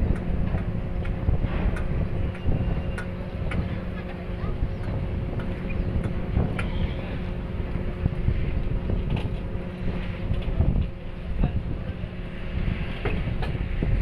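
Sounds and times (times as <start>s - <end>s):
ferry engines rumbling: 0.0s - 14.0s
wind buffeting microphone: 0.0s - 14.0s.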